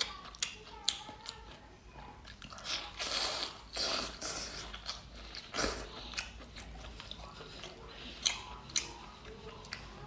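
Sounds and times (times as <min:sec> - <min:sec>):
wet chewing and slurping: 0:00.0 - 0:10.0.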